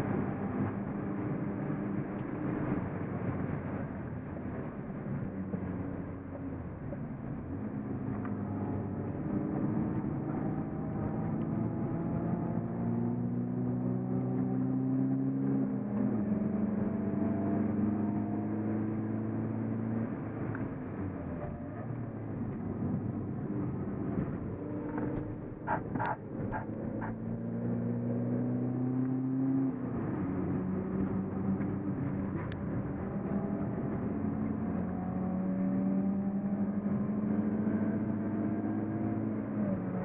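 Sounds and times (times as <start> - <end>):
diesel car engine accelerating: 0.0 - 40.0.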